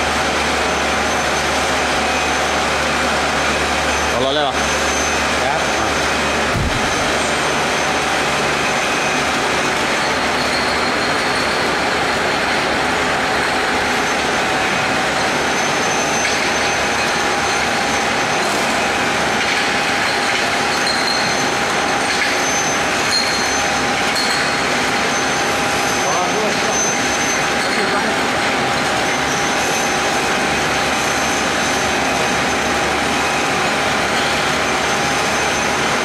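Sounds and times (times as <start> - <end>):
bottle washing machine running: 0.0 - 36.0.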